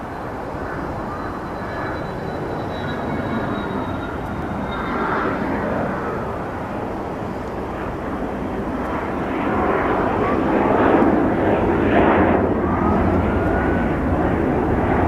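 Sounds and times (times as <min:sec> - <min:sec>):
faint high whine: 0:00.0 - 0:15.0
jet engines running: 0:00.0 - 0:15.0.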